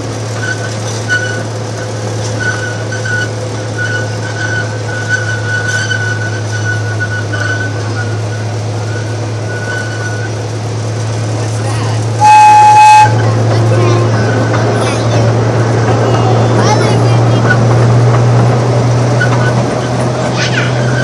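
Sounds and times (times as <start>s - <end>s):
high squeal of train ride: 0.0s - 21.0s
ride train rumbling: 0.0s - 21.0s.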